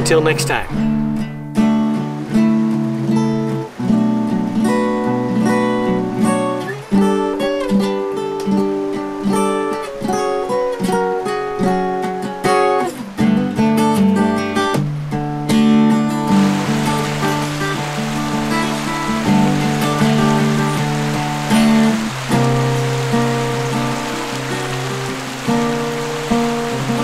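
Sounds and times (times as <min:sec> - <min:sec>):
guitar playing chords: 0:00.8 - 0:27.0.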